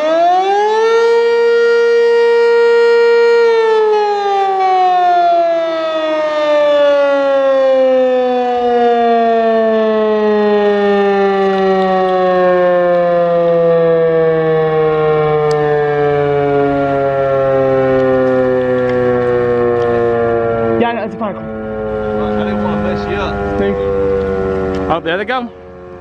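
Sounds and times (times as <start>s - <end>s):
warning siren falling tone: 0.0s - 26.0s.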